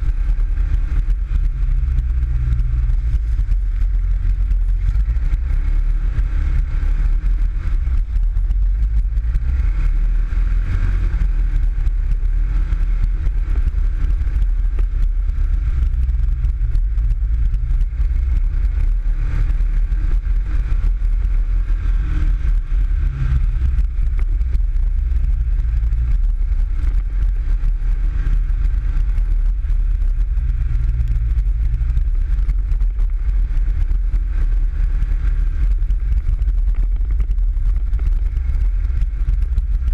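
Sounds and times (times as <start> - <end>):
buggy engine rumbling: 0.0 - 39.9.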